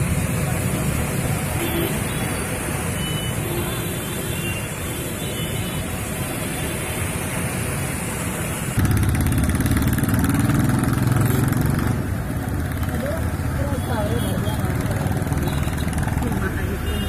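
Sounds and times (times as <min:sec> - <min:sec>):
motorcycle engines riding through water: 0:00.0 - 0:17.0.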